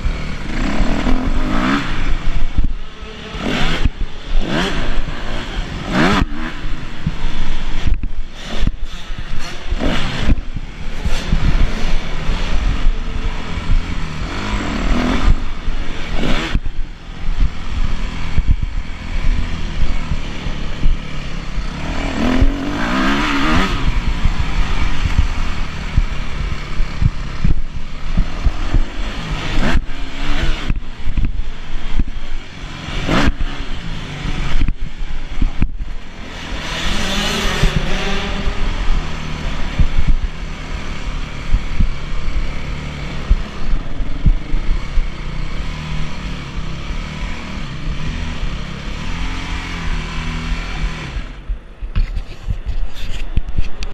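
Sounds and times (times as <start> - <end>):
motocross engine revving: 0.0 - 51.6.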